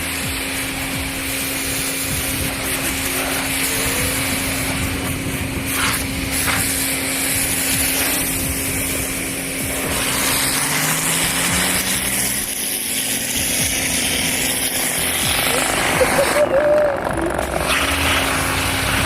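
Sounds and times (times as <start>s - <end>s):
pressure washer motor hum: 0.0s - 19.0s
water spray hissing: 0.0s - 19.0s.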